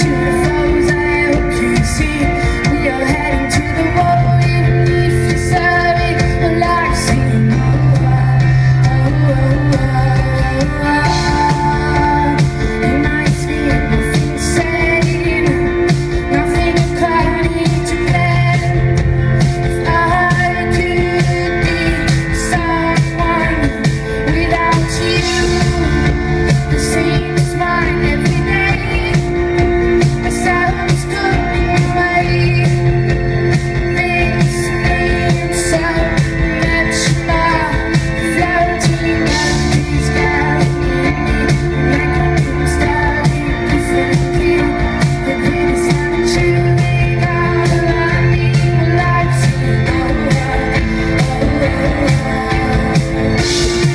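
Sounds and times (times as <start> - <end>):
person singing: 0.0 - 53.9
piano chords: 0.0 - 53.9.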